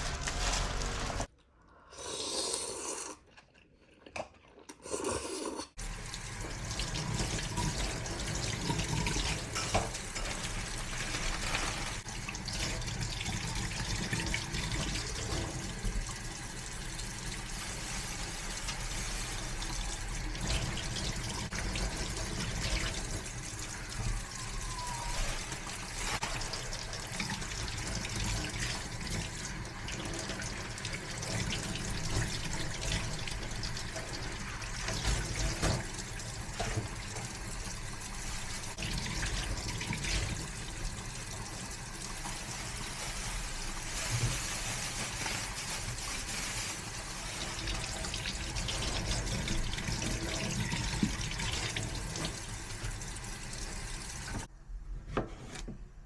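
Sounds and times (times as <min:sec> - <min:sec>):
running water: 0:05.8 - 0:54.5.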